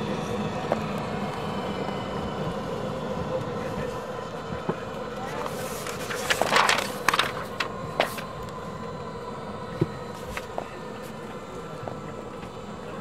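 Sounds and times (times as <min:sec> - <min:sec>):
airliner cabin hum and hiss: 0:00.0 - 0:13.0.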